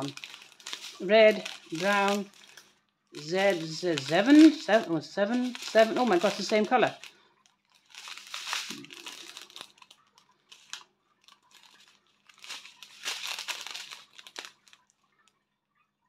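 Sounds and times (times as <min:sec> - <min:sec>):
plastic packets crinkling: 0:00.0 - 0:15.2
small clicks of packets: 0:00.0 - 0:15.4.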